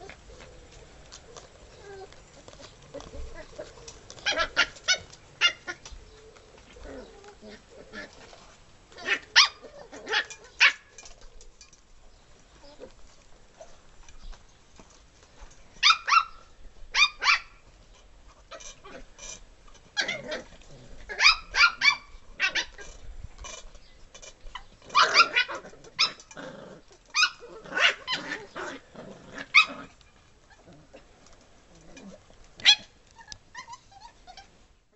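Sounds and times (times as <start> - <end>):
puppies yapping and barking: 0.0 - 11.4, 15.8 - 17.7, 18.3 - 31.3, 32.0 - 34.6.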